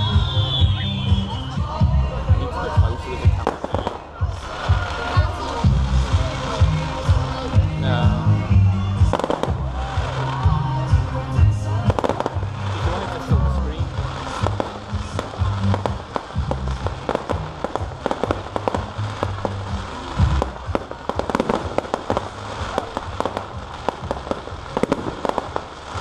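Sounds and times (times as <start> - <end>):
background music with bass: 0.0 - 26.0.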